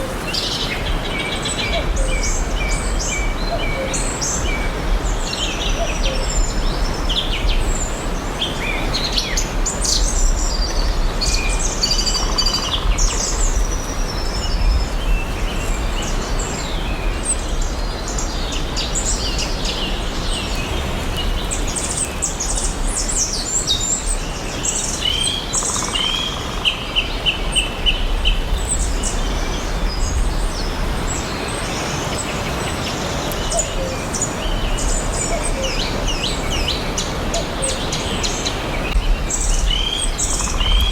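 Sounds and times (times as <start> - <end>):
outdoor background hiss: 0.0 - 40.9
songbirds chirping and singing: 0.0 - 40.9.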